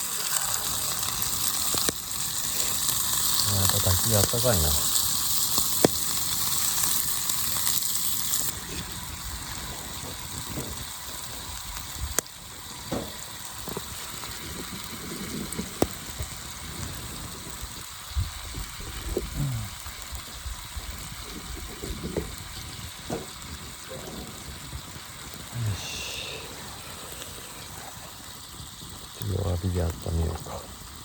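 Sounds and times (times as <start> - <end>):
fire crackles and pops: 0.0 - 31.0
steak sizzling over fire: 0.0 - 31.0.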